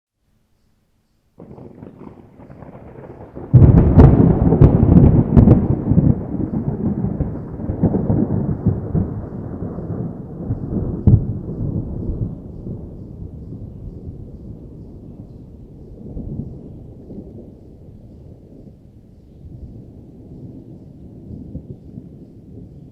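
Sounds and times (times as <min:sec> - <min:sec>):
thunder cracks and rumble: 0:01.4 - 0:22.9.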